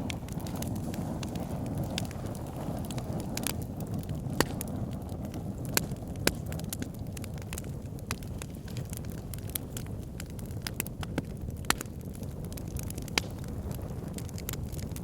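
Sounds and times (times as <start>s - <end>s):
fire crackling: 0.0s - 15.0s
fire pit flames rumbling: 0.0s - 15.0s
loud fire pops: 0.0s - 15.0s.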